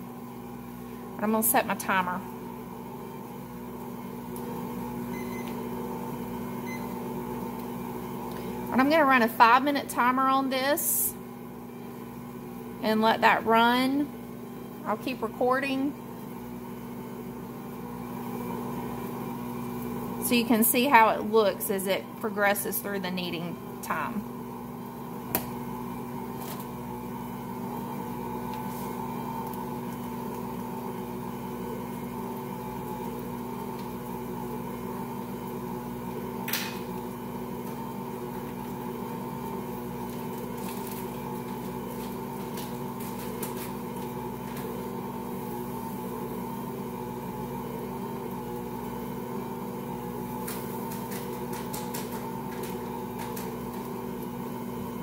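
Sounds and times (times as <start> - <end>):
stand mixer motor hum: 0.0 - 1.2, 2.3 - 8.7, 14.1 - 14.9, 15.9 - 21.3, 23.5 - 55.0.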